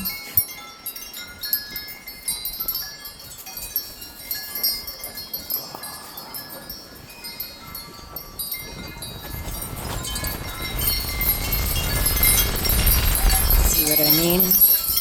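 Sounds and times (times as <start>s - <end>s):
rush of wind: 0.0s - 15.0s
wind chimes ringing: 0.0s - 15.0s.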